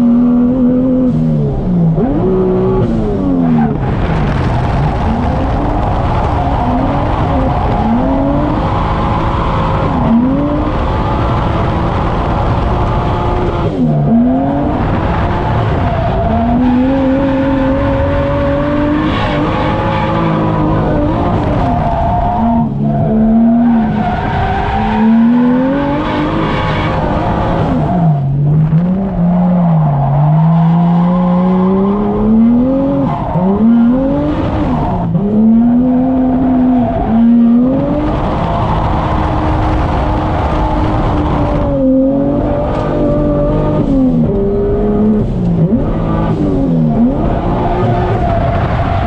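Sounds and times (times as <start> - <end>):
car engine revving hard: 0.0 - 49.0.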